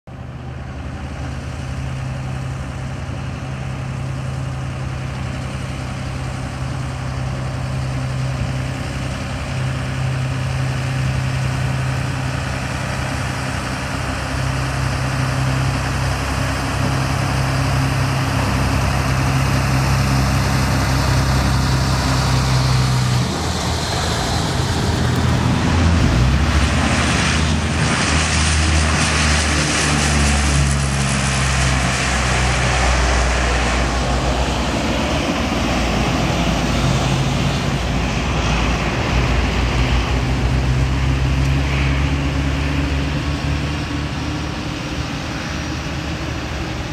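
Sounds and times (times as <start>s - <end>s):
turboprop engines droning: 0.1s - 46.9s.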